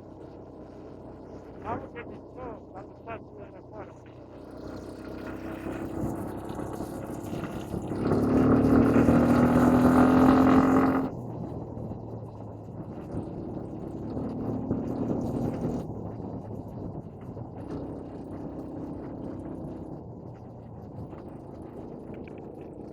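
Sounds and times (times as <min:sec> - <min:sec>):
quad bike engine running: 0:00.0 - 0:22.9.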